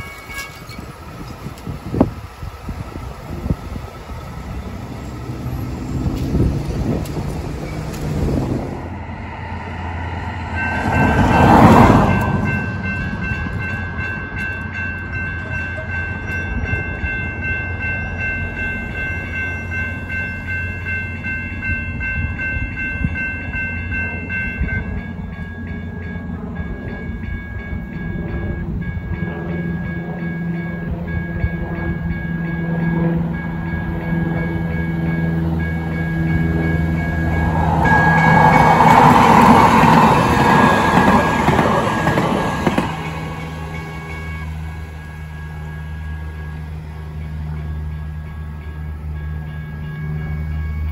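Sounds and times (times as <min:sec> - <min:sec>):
light rail train passing: 0:00.0 - 0:50.9.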